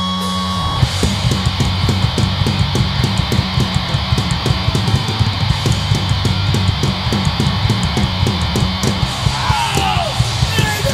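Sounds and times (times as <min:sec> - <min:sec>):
bass guitar: 0:00.0 - 0:10.9
distorted electric guitar: 0:00.0 - 0:10.9
fast drumming with cymbal hits: 0:00.5 - 0:10.9.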